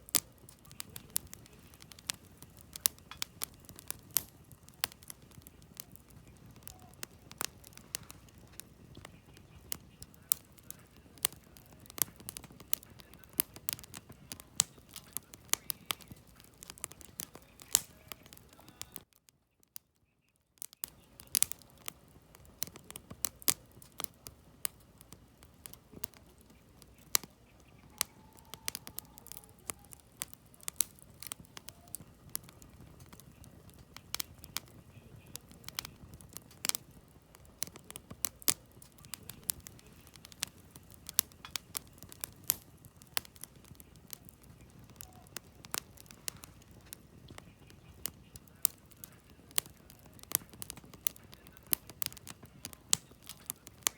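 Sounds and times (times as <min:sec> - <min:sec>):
low rush of flame: 0:00.0 - 0:19.1, 0:20.8 - 0:53.9
campfire crackling and popping: 0:00.0 - 0:53.9.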